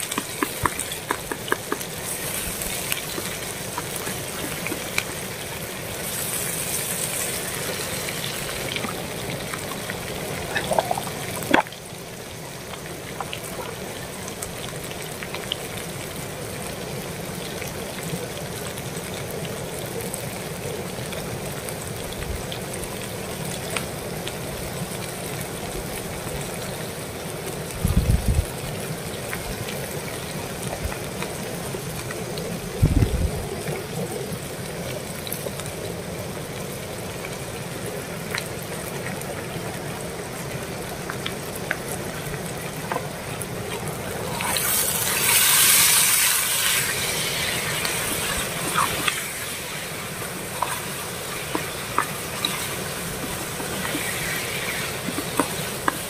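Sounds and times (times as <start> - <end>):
curry simmering hiss: 0.0 - 56.0.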